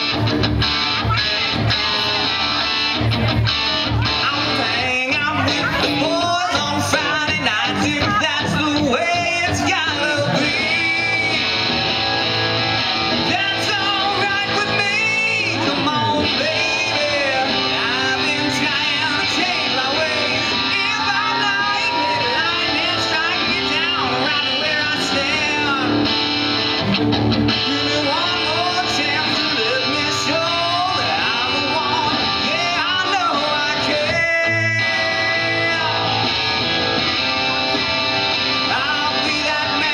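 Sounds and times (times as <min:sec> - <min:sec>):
live rock band with guitar: 0:00.0 - 0:39.9
man singing: 0:01.0 - 0:12.5, 0:13.1 - 0:26.6, 0:27.5 - 0:36.7, 0:38.5 - 0:39.9.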